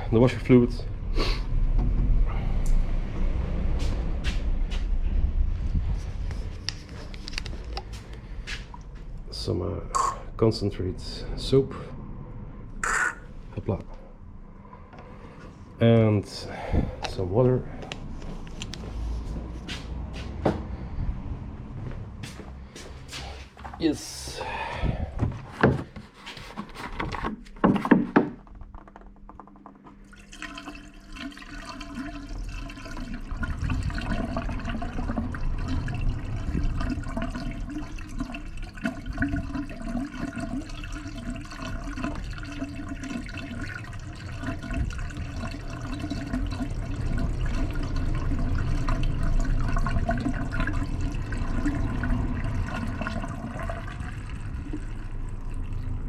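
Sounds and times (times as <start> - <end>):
water pouring and gurgling: 0.0 - 21.4, 28.4 - 56.0.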